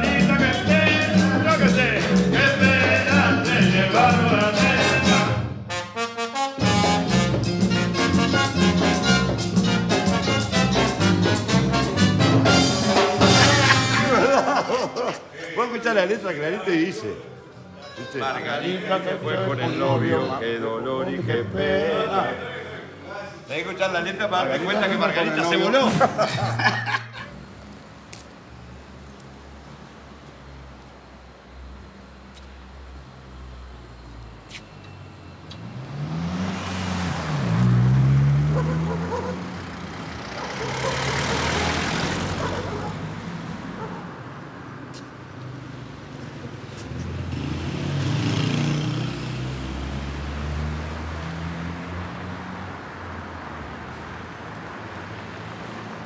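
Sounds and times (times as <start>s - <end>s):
cars passing: 0.0s - 56.0s
low traffic rumble: 0.0s - 56.0s.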